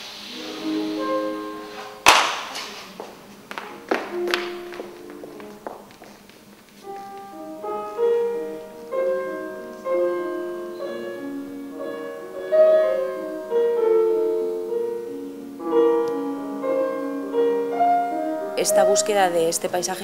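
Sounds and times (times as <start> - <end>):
slow piano playing: 0.0 - 20.0.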